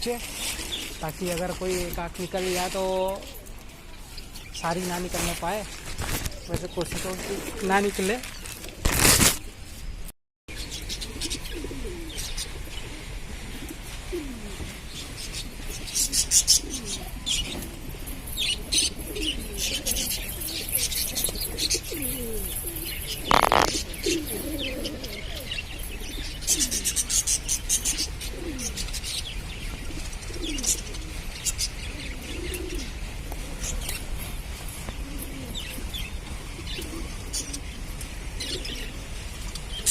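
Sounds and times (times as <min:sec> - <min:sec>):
pigeons cooing: 0:00.0 - 0:09.6, 0:10.5 - 0:39.9.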